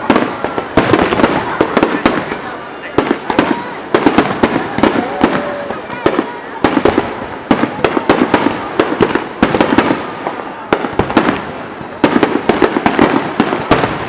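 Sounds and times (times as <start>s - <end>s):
fireworks bangs: 0.0s - 14.0s
fireworks crackle: 0.0s - 14.0s.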